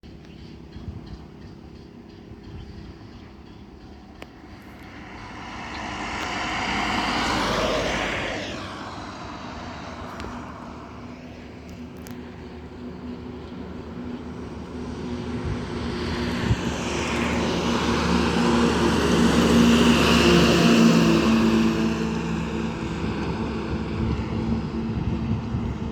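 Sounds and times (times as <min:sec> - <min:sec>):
trucks driving past: 0:00.0 - 0:25.9.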